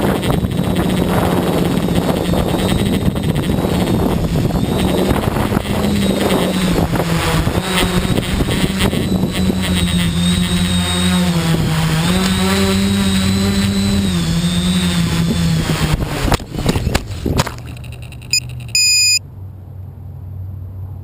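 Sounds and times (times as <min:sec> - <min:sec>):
drone propellers buzzing: 0:00.0 - 0:19.2.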